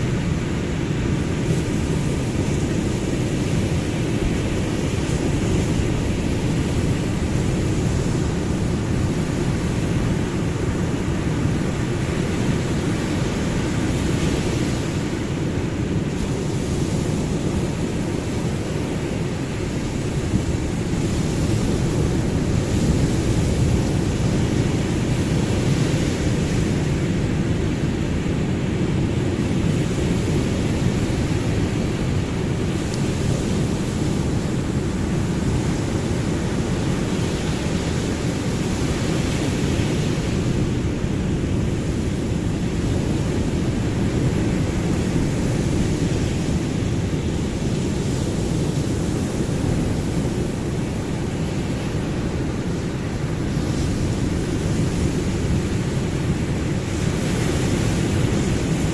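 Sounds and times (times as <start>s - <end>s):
ocean surf rushing: 0.0s - 58.9s.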